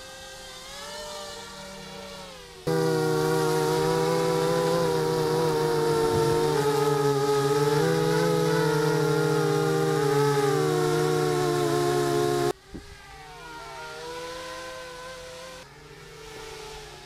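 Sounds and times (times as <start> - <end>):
drone motors whining: 1.5 - 17.0
distant drone buzz: 1.7 - 17.0.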